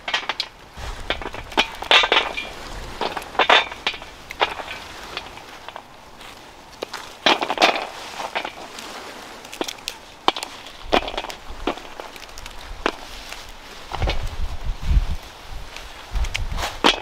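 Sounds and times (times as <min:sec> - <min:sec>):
rustle of stems and leaves: 0:00.0 - 0:17.0.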